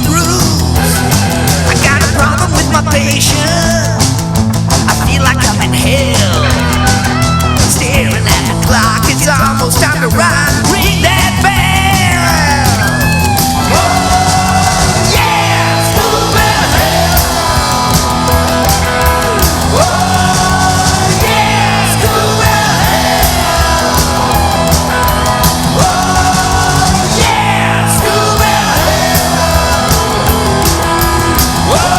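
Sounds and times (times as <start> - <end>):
bass line: 0.0 - 31.9
pitch-bending lead part: 0.0 - 31.9
rock band playing: 0.0 - 31.9.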